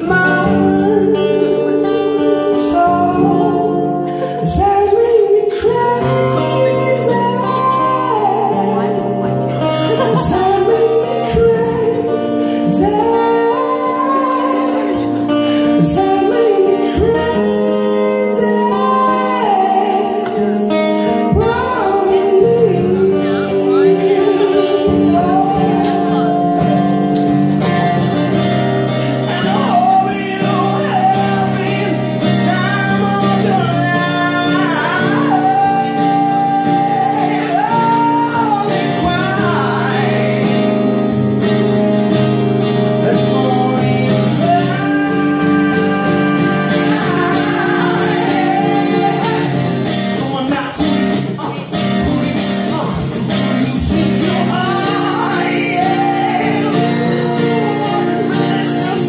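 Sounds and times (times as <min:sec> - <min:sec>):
instrumental accompaniment: 0:00.0 - 0:59.0
man singing into microphone: 0:00.0 - 0:59.0.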